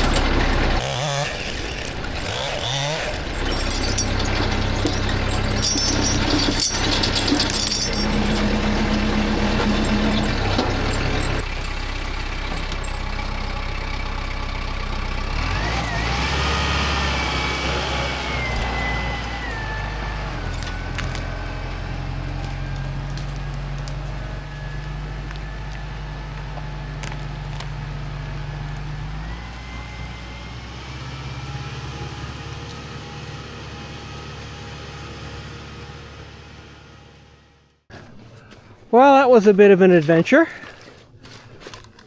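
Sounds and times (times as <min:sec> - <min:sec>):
vehicle engine running: 0:00.0 - 0:37.8.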